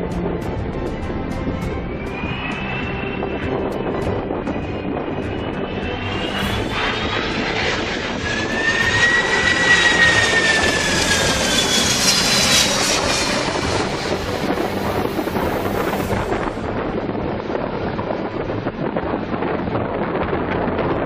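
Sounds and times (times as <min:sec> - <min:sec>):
jet airliner passing overhead: 0:00.0 - 0:20.2
jet fan whine: 0:00.4 - 0:20.1.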